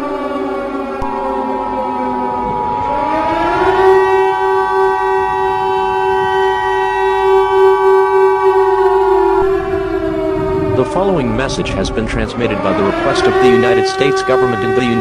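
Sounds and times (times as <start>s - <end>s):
civil defense siren winding: 0.0s - 15.0s.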